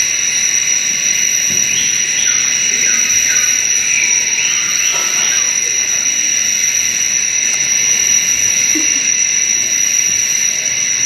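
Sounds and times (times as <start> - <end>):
insect buzzing drone: 0.0 - 11.0.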